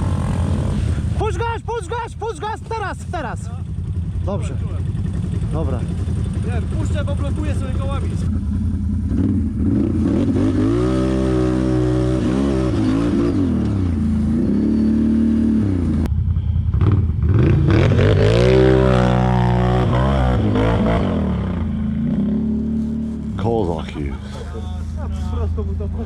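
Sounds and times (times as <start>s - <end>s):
quad bike engine revving: 0.0s - 1.2s, 3.6s - 23.4s.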